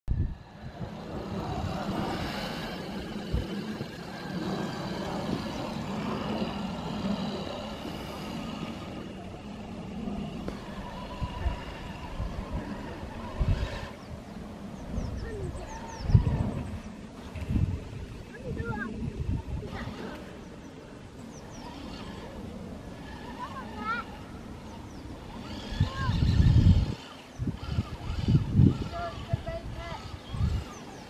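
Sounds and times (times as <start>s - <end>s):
toy car electric motor whining: 0.2s - 16.7s, 21.4s - 31.0s.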